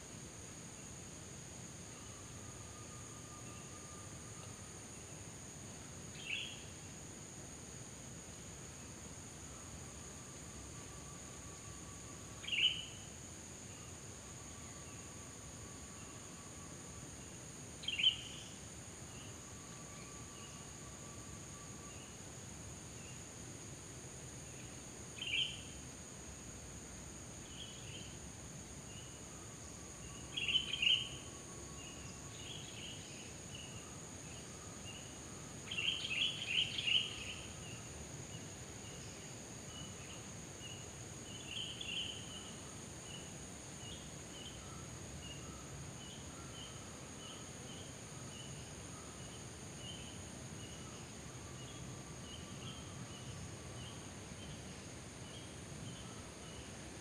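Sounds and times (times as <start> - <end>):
steady high background hiss: 0.0 - 57.0.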